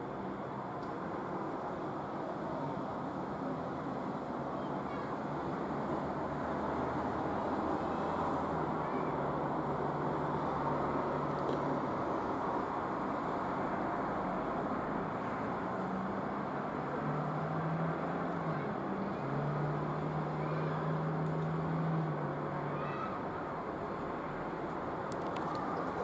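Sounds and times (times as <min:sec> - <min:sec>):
road traffic hum: 0:00.0 - 0:26.0.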